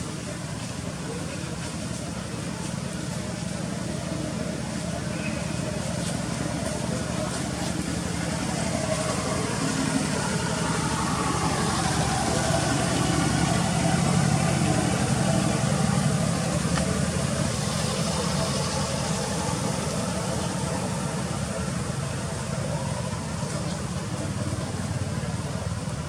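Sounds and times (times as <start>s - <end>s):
people's voices: 0.0s - 26.0s
vehicle engine running: 0.0s - 26.0s.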